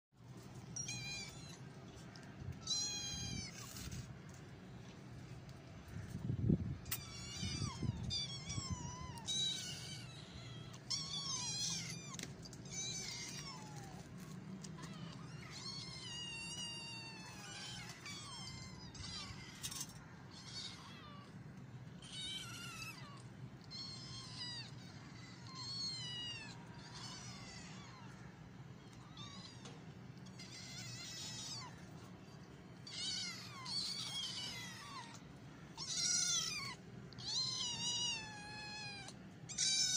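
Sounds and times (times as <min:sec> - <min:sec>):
kittens mewing: 0:06.8 - 0:32.2, 0:32.8 - 0:39.9.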